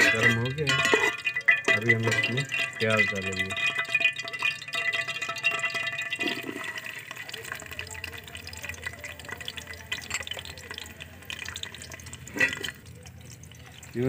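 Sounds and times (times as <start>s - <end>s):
onion sizzling in hot pan: 0.0s - 12.9s.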